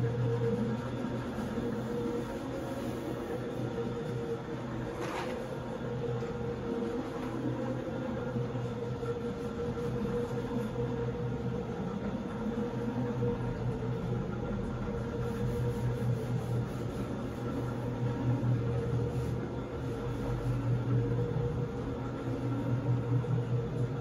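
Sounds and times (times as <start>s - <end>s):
floor scrubbing machine humming: 0.0s - 24.0s.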